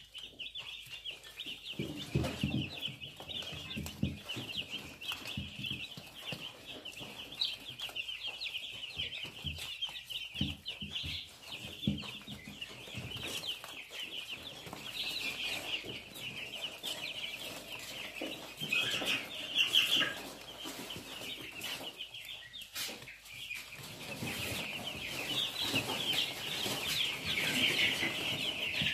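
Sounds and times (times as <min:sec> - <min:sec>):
chicks peeping: 0:00.0 - 0:28.9.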